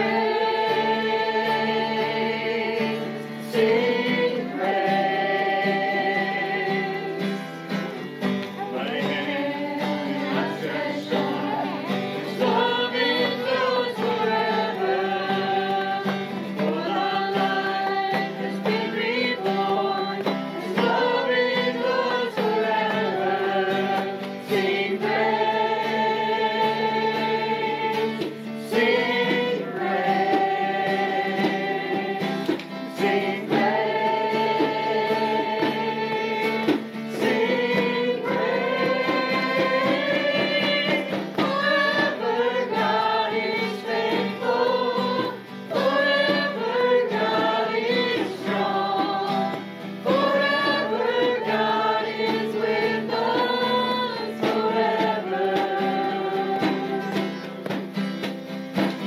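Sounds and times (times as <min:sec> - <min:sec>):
congregation singing praise song: 0:00.0 - 0:59.0.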